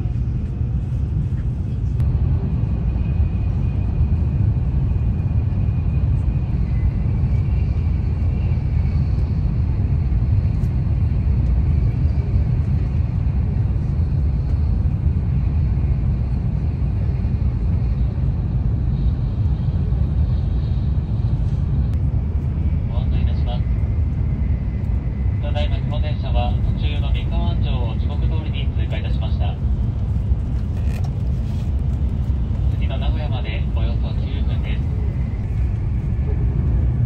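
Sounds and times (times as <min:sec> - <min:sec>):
train cabin deep rumble: 0:00.0 - 0:37.0.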